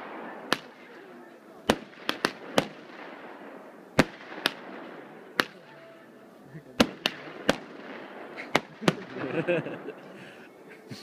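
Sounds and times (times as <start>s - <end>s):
fireworks exploding: 0.0s - 5.8s, 6.8s - 10.1s
faint crackle and hiss: 0.0s - 11.0s.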